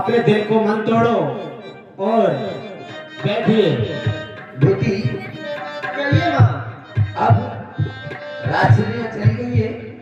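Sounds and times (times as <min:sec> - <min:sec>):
harmonium tones: 0:00.0 - 0:10.0.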